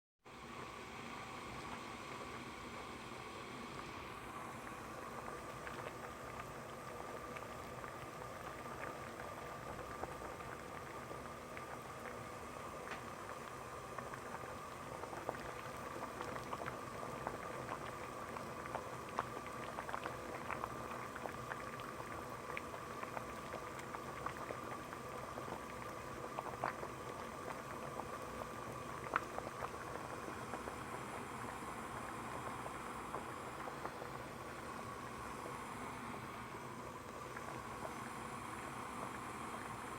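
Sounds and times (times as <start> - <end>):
water boiling: 0.3 - 39.9.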